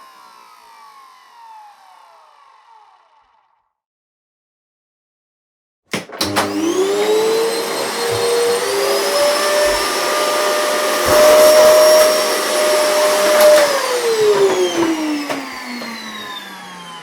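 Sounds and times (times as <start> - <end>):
vacuum cleaner motor whine: 0.0 - 3.2, 6.2 - 17.0.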